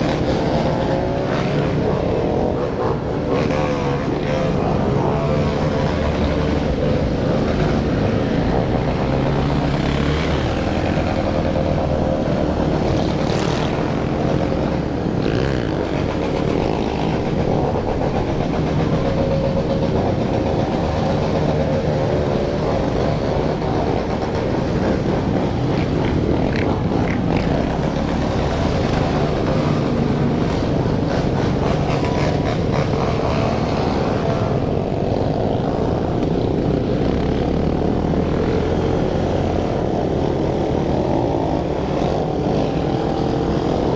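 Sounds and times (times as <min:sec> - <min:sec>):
many motorcycle engines revving: 0:00.0 - 0:43.9.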